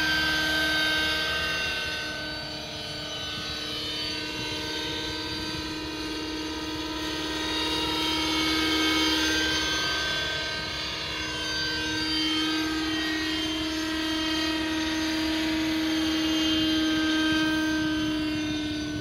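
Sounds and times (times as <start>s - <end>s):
rc helicopter engine and rotors: 0.0s - 19.0s.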